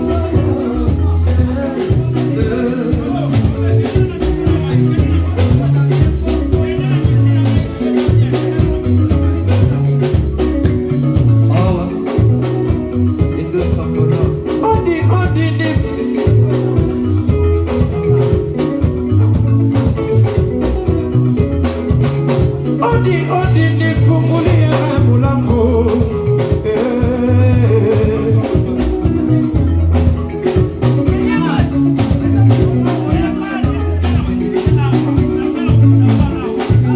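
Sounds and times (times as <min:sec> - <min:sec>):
bass line: 0:00.0 - 0:36.9
drum beat: 0:00.0 - 0:36.9
electric guitar lines: 0:00.0 - 0:36.9.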